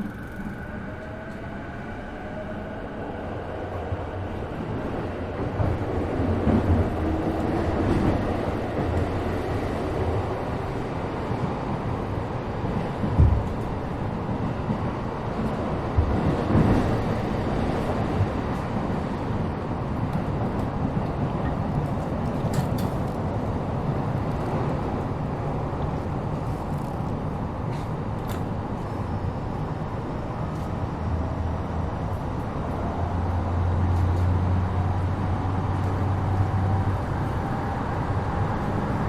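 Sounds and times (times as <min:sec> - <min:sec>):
train wheels rumbling: 0:00.0 - 0:39.0.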